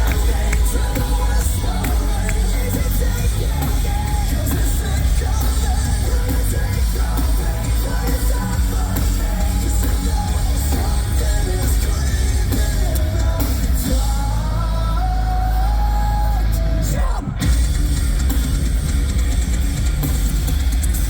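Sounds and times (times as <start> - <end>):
metal band playing live: 0.0 - 21.0.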